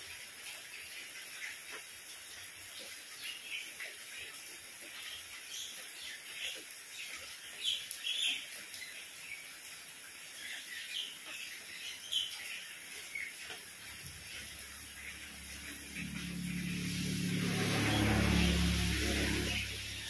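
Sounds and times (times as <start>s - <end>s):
rain on paving and plants: 0.0s - 20.0s.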